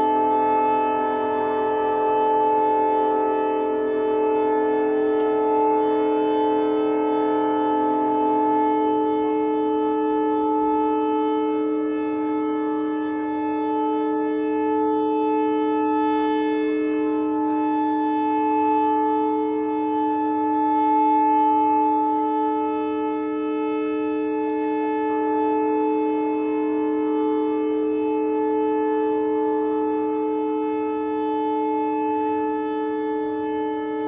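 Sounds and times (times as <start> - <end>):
ships' whistles blasting: 0.0 - 34.0.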